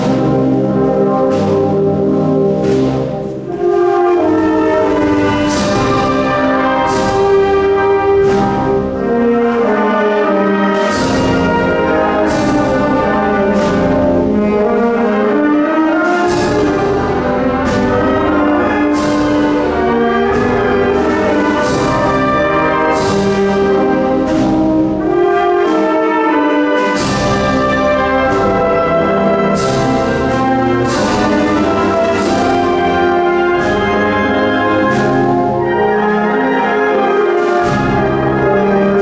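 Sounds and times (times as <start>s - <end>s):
percussion strikes: 0.0s - 39.0s
wind band playing a march: 0.0s - 39.0s.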